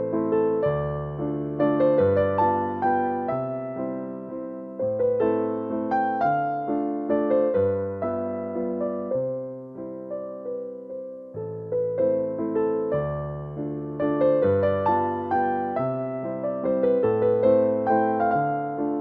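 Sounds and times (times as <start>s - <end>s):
gentle piano waltz: 0.0s - 19.0s.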